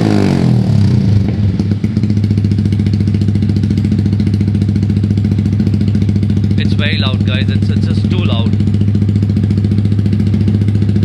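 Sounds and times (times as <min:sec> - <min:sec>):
loud motorcycle engine idling: 0:00.0 - 0:11.0.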